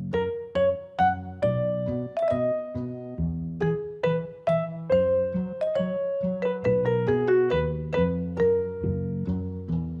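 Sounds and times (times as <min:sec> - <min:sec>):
keyboard playing simple melody: 0:00.0 - 0:10.0.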